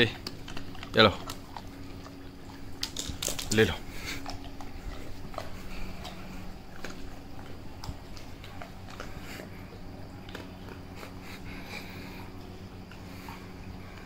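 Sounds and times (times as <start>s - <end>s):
dog crunching biscuit: 0.0s - 14.0s
steady low hum: 0.0s - 14.0s.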